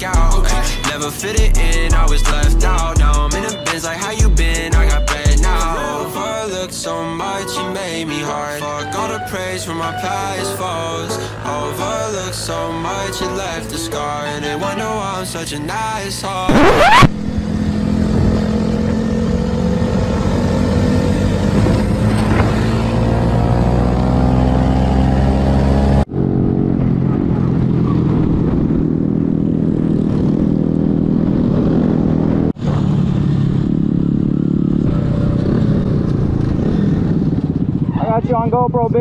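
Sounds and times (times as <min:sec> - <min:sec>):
motorcycle engines running: 0:00.0 - 0:39.0.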